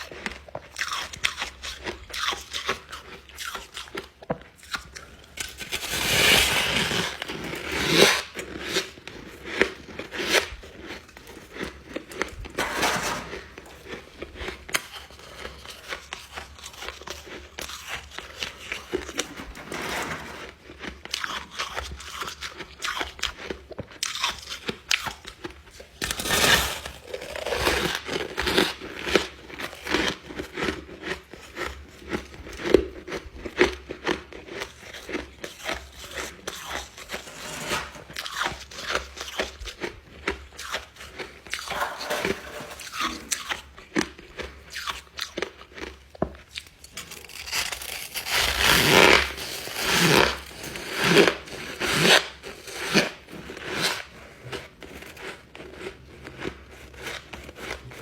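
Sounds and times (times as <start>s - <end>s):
ice being chewed: 0.0s - 12.8s, 13.4s - 58.0s.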